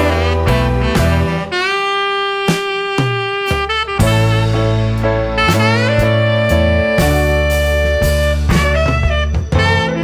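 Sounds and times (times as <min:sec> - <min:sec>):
bass line: 0:00.0 - 0:10.0
jazz saxophone: 0:00.0 - 0:10.0.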